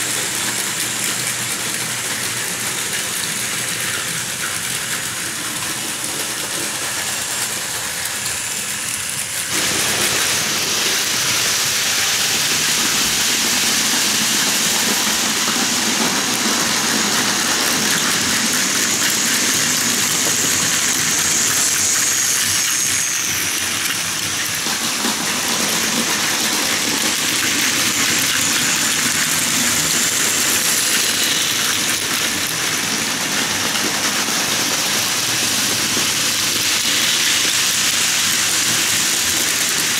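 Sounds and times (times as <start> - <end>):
plastic wheels rattling on track: 0.0 - 39.9
toy train motors whirring: 0.0 - 39.9.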